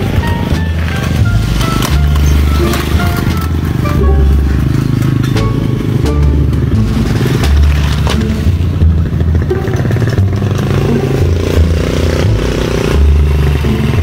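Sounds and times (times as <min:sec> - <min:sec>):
music with heavy bass: 0:00.0 - 0:14.0
small motorbike engine: 0:00.0 - 0:14.0.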